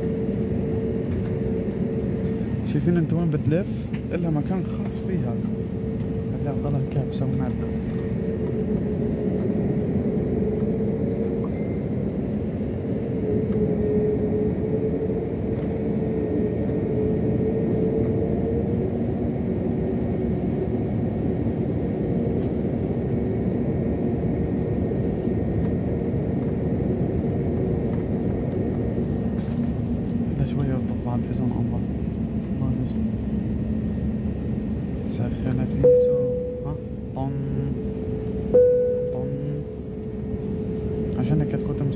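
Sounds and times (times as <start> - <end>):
jet engines rumbling in cabin: 0.0 - 41.9.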